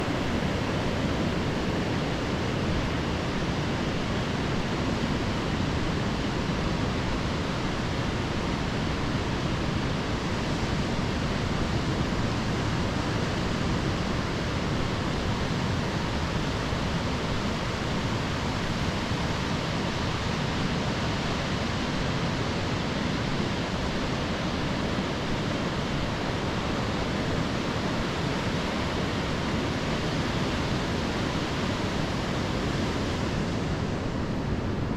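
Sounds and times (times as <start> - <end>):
ocean surf on beach: 0.0 - 34.9.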